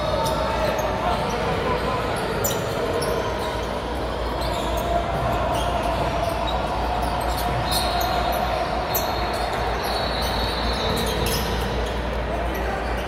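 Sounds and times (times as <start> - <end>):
sneaker squeak: 0.2 - 13.0.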